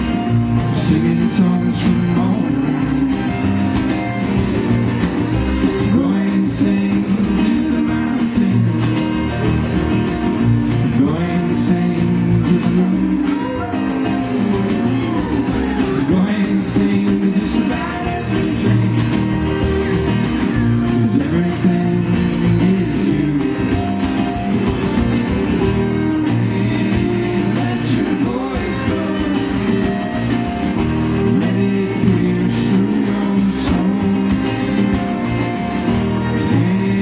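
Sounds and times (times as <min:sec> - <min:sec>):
person singing: 0:00.0 - 0:04.3, 0:05.7 - 0:09.5, 0:10.8 - 0:24.8, 0:25.4 - 0:37.0
acoustic guitar strumming: 0:00.0 - 0:37.0
fiddle: 0:00.0 - 0:37.0
upright bass: 0:00.0 - 0:37.0.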